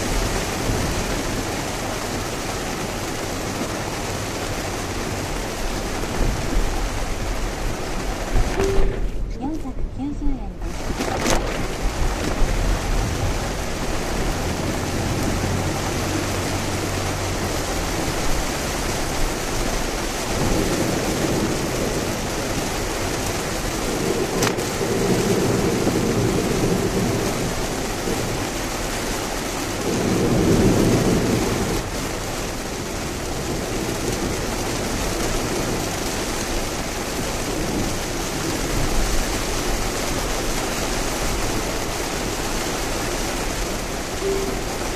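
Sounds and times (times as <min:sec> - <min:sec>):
heavy rain and tyre spray: 0:00.0 - 0:44.9.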